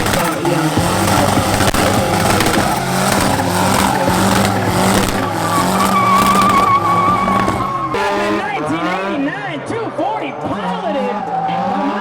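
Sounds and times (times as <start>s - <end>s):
car engine at high revs: 0.0s - 12.0s
tyres squealing: 0.0s - 12.0s.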